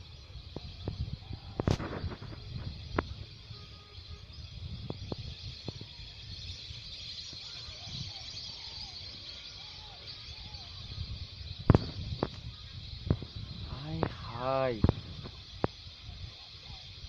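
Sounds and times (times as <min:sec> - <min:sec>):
flock of birds calling: 0:00.0 - 0:17.0.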